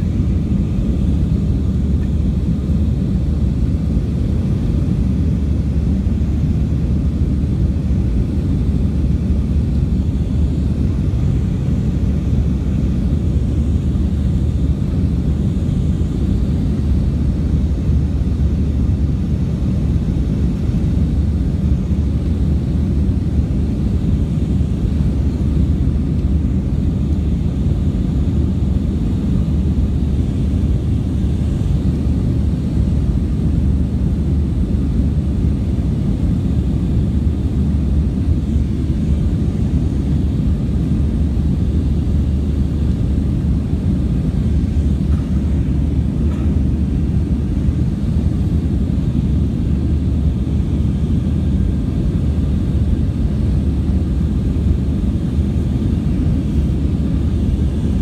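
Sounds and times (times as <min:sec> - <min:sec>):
jet engines and rushing air: 0:00.0 - 0:58.0.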